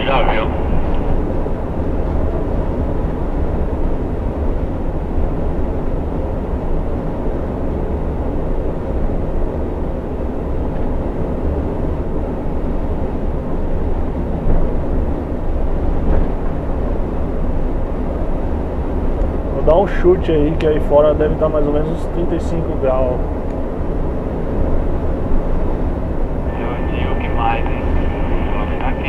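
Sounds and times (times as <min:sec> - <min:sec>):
coach engine hum: 0:00.0 - 0:29.0
road and tyre noise: 0:00.0 - 0:29.0.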